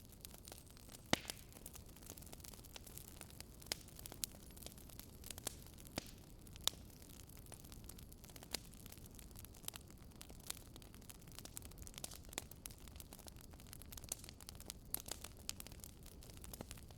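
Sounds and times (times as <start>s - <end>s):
wood crackling and popping: 0.0s - 16.9s.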